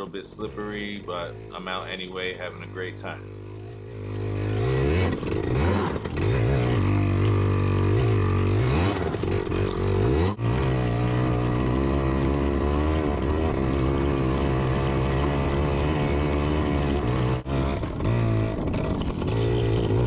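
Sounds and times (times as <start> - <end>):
small two-stroke engine revving: 0.0 - 20.0.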